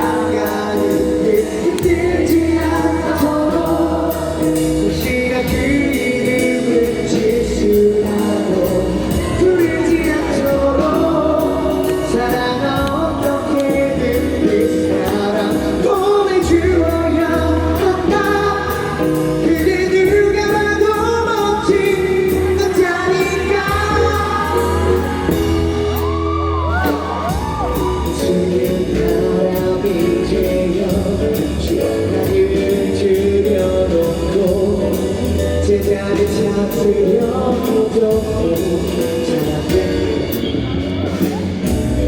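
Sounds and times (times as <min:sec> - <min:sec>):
bass line: 0:00.0 - 0:42.0
drums steady beat: 0:00.0 - 0:42.0
person singing: 0:00.0 - 0:42.0
pop-rock band playing: 0:00.0 - 0:42.0.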